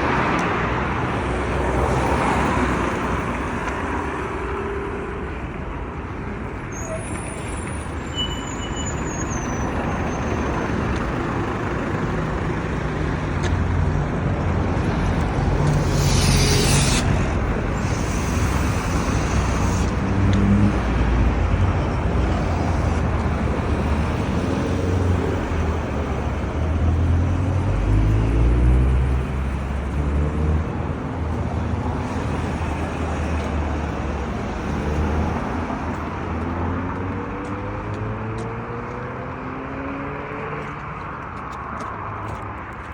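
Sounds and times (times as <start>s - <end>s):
traffic passing: 0.0s - 42.9s.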